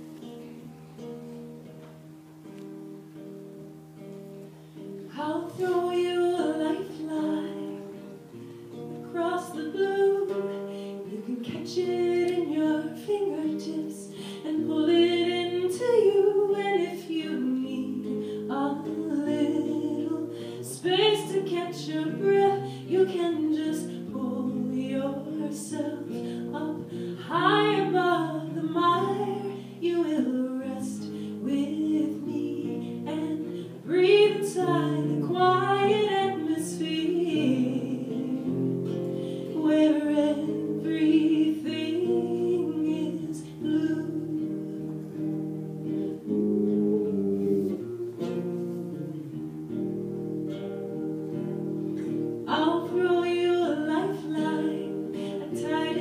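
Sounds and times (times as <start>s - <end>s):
acoustic guitar: 0.0s - 56.0s
person singing: 5.1s - 49.6s, 52.0s - 56.0s.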